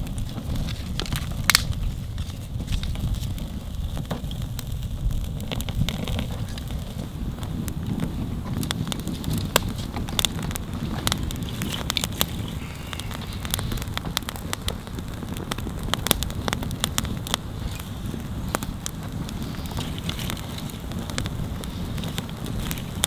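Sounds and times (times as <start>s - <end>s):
campfire crackling and popping: 0.0s - 23.0s
fire low rumble: 0.0s - 23.0s.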